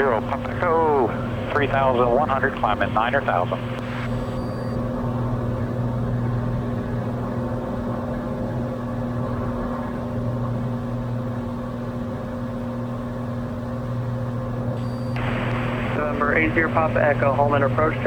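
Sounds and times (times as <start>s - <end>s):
aircraft engine and propeller droning: 0.0s - 18.0s.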